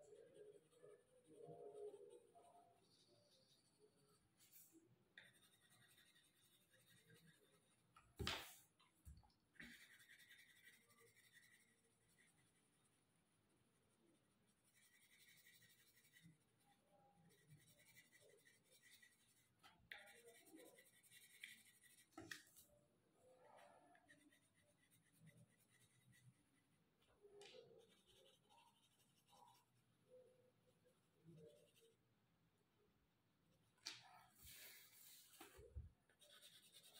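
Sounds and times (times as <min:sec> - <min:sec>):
pencil scratching on paper: 0:00.0 - 0:08.5, 0:09.6 - 0:13.0, 0:14.5 - 0:22.6, 0:23.4 - 0:26.8, 0:27.5 - 0:30.3, 0:30.9 - 0:32.0, 0:34.3 - 0:36.9.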